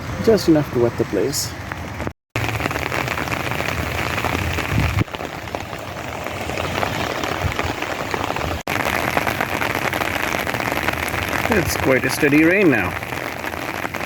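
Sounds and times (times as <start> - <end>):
light rain falling: 0.3 - 14.0.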